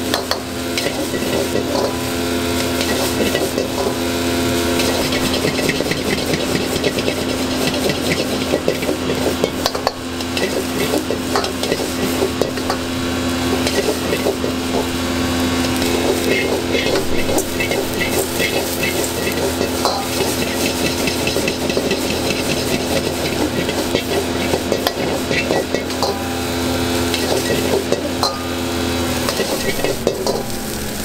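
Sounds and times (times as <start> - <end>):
rice sizzling: 0.0 - 31.0
steady hum: 0.0 - 31.0
ladle scraping a wok: 0.7 - 31.0.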